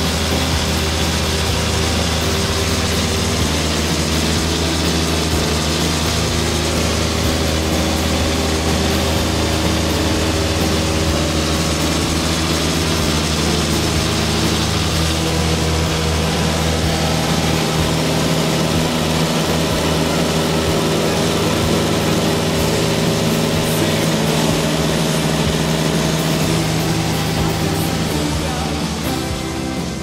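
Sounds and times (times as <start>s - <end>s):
airplane engine and propeller: 0.0s - 30.0s.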